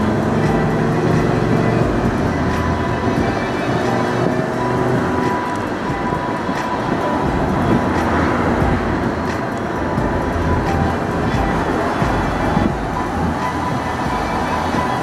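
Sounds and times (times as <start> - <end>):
car cabin road and engine noise: 0.0 - 15.0
faint car stereo music: 0.0 - 15.0.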